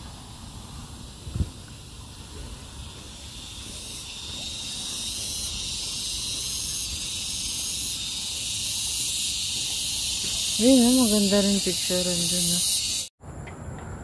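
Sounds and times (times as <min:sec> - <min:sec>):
insects chorus shrill hiss: 0:00.0 - 0:13.1.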